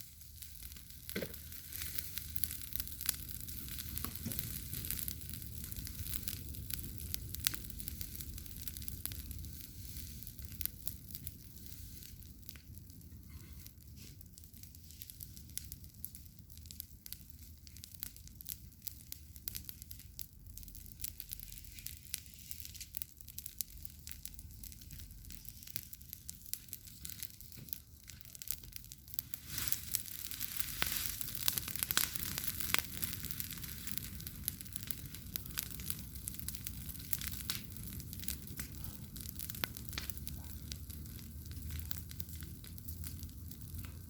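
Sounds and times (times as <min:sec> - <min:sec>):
campfire crackling: 0:00.0 - 0:44.0
fire hissing: 0:00.0 - 0:44.0.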